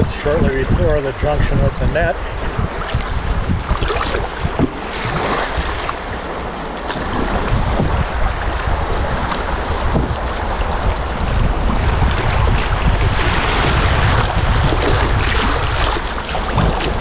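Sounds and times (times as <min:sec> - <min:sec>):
river water rushing along canoe: 0:00.0 - 0:17.0
wind buffeting microphone: 0:00.0 - 0:17.0.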